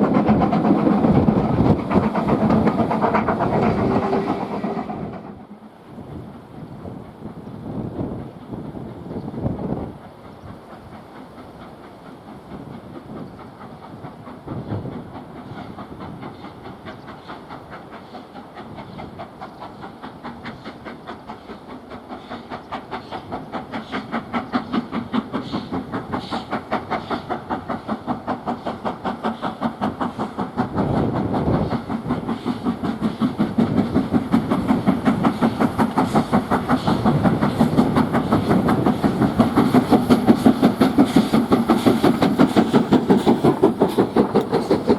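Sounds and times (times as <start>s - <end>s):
steam hiss: 0.0s - 44.9s
steam locomotive exhaust beats: 0.0s - 44.9s.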